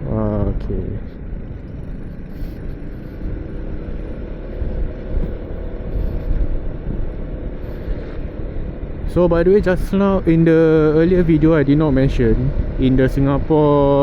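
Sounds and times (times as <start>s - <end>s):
wind on microphone: 0.0s - 13.2s
motorcycle engine running: 0.0s - 14.0s
road rumble: 0.0s - 14.0s.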